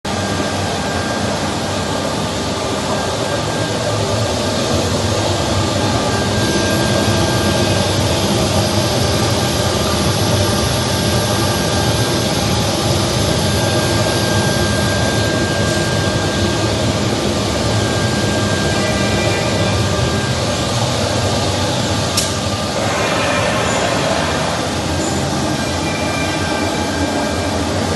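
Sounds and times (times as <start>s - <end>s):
cnc machine running: 0.1s - 27.9s
faint high whine: 0.1s - 27.9s.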